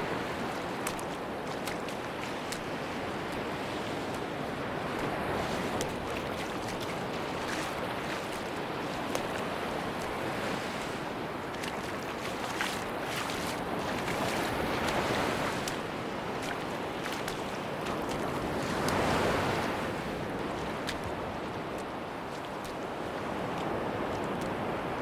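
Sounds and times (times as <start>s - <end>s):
sea surf washing on beach: 0.0s - 25.0s.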